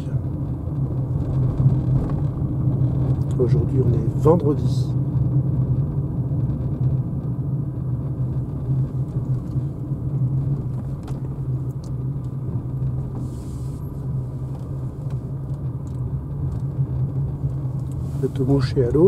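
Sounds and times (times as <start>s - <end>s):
road and tyre noise in car: 0.0s - 19.0s.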